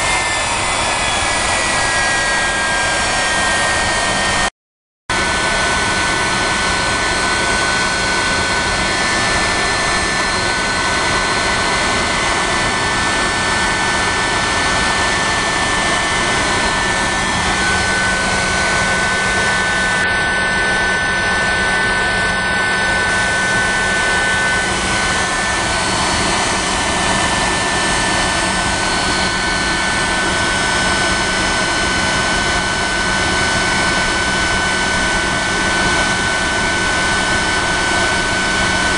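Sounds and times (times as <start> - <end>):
high jet whine: 0.0 - 4.5, 5.1 - 38.9
turbojet engine running: 0.0 - 4.5, 5.1 - 38.9.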